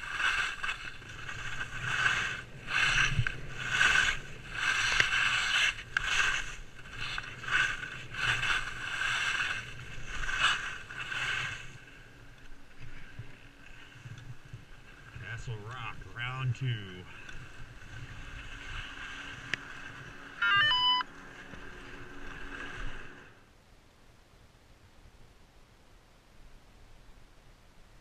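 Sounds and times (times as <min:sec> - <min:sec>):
skis scraping on snow: 0:00.0 - 0:20.4, 0:21.0 - 0:23.5.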